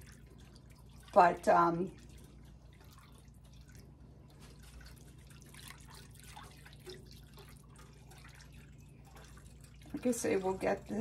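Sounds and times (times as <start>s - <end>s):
whisk swishing through gravy: 0.0s - 10.7s
low steady hum: 0.0s - 11.0s.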